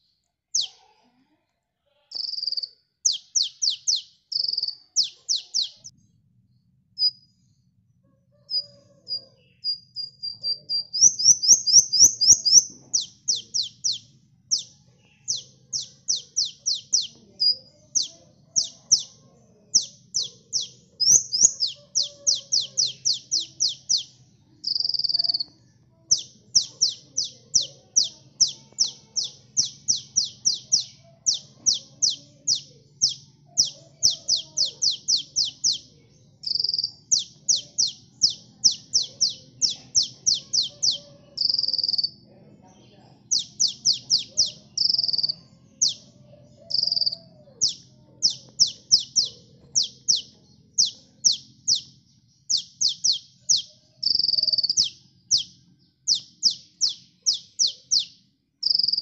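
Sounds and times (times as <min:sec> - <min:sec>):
sunbird singing chattering song: 0:00.0 - 0:00.8, 0:02.1 - 0:06.1, 0:08.3 - 0:59.0.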